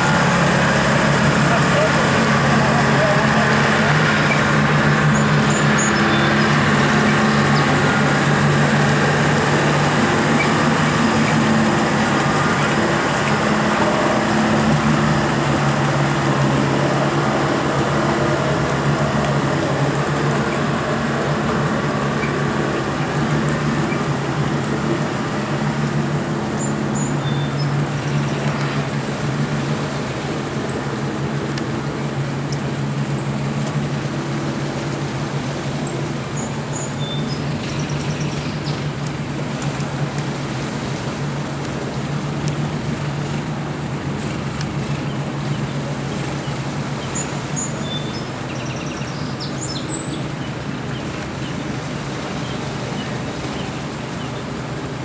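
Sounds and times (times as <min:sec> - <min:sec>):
truck engine humming: 0:00.0 - 0:55.0
water washing: 0:00.0 - 0:55.0.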